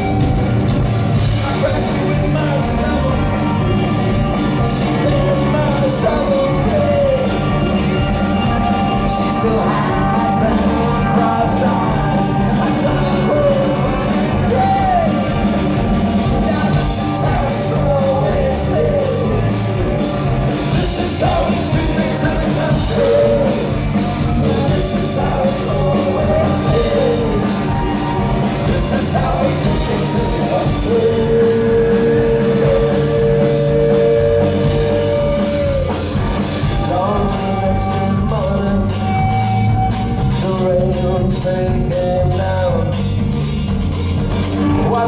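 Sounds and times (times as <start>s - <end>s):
live band playing: 0.0s - 45.0s
man singing: 1.2s - 43.3s, 44.5s - 45.0s.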